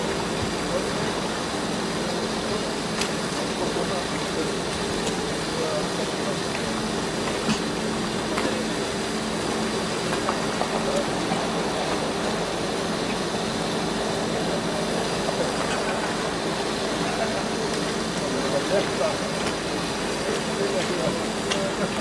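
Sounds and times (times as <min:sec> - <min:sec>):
faint voices: 0:00.0 - 0:22.0
machinery humming: 0:00.0 - 0:22.0.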